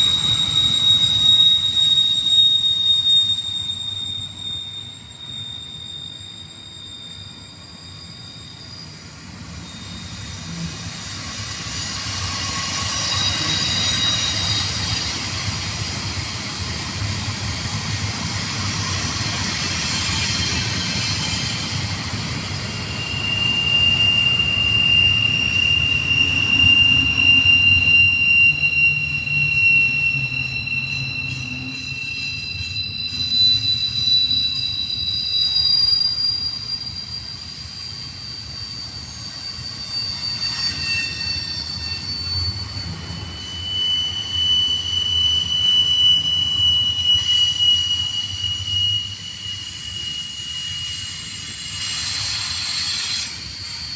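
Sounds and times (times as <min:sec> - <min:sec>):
high wheel squeal: 0:00.0 - 0:53.9
train wheels rumbling on rails: 0:00.0 - 0:53.9.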